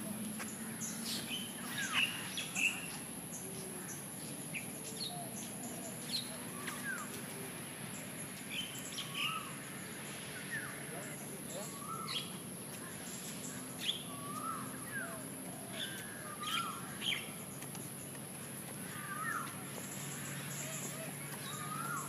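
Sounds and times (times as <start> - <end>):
birds chirping and whistling: 0.4 - 3.7, 4.5 - 7.2, 8.4 - 18.1, 18.8 - 22.0.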